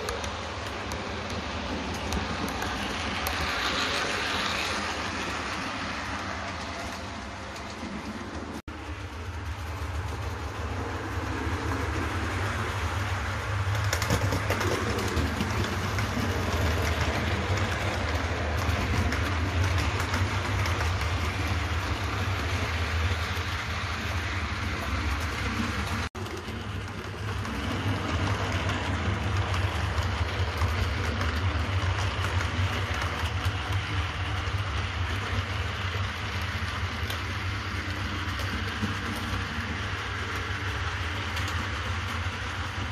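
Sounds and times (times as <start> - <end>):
model train wheels rumbling on track: 0.0 - 42.9.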